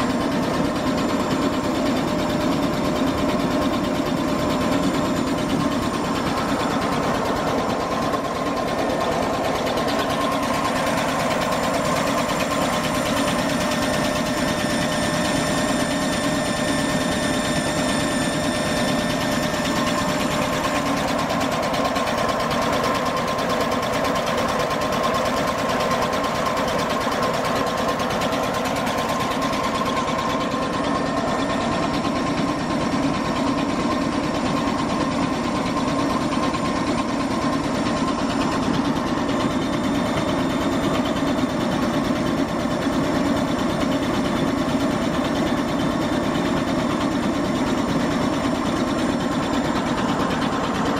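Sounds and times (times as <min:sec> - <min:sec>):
dynamo whirring with whine: 0:00.0 - 0:50.9.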